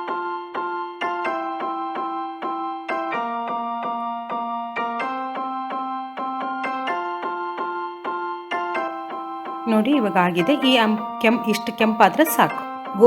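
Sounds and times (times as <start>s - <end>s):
electric piano tune: 0.0s - 13.0s.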